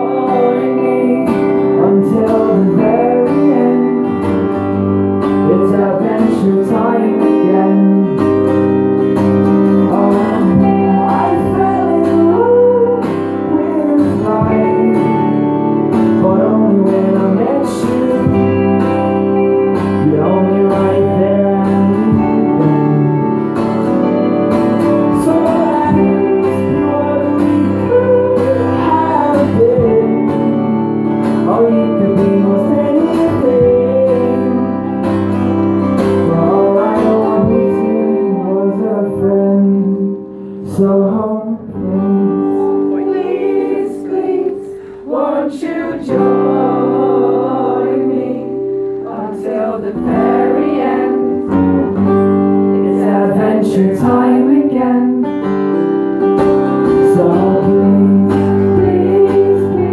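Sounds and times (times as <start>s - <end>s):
acoustic guitar strumming: 0.0s - 59.9s
electric guitar playing: 0.0s - 59.9s.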